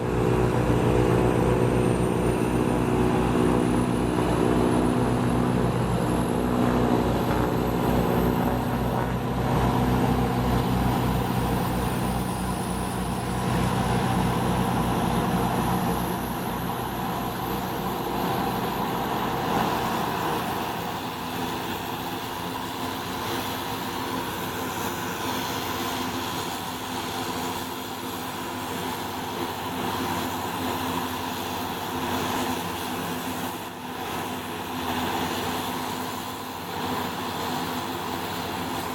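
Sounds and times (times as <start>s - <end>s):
high turbine whine: 0.0s - 38.9s
turboprop engines running: 0.0s - 38.9s.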